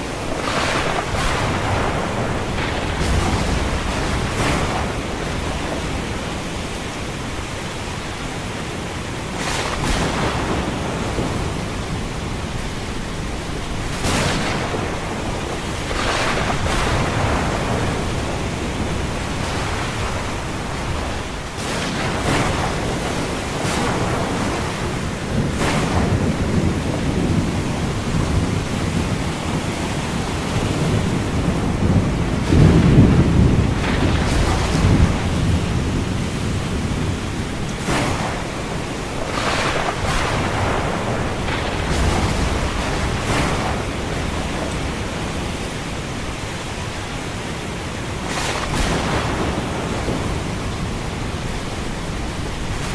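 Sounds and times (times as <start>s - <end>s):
rain: 0.0s - 52.9s
thunder rumbling: 0.0s - 52.9s
waves breaking: 0.0s - 52.9s.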